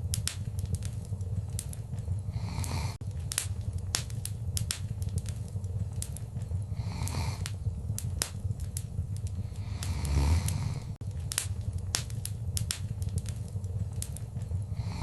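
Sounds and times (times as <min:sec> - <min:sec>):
rush of flame: 0:00.0 - 0:15.0
wood fire crackling and popping: 0:00.0 - 0:15.0.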